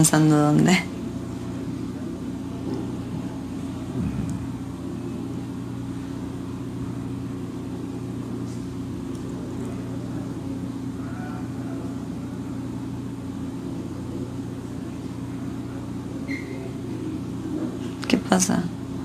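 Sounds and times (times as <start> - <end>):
low mechanical machine hum: 0.0 - 19.0.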